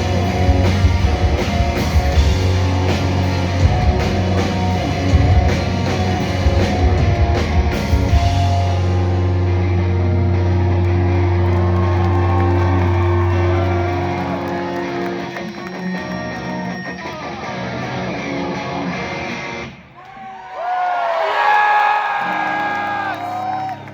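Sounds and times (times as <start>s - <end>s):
electric guitars ringing: 0.0s - 19.8s.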